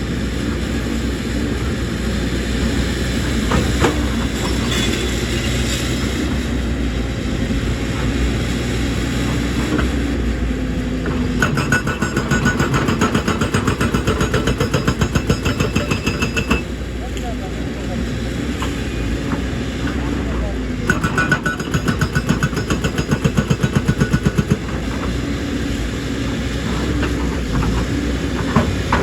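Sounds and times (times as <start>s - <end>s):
diesel engine under load: 0.0s - 29.0s.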